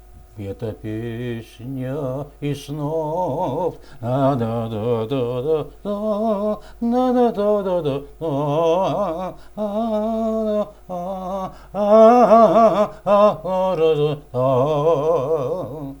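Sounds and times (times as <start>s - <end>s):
man singing unaccompanied: 0.2s - 16.0s.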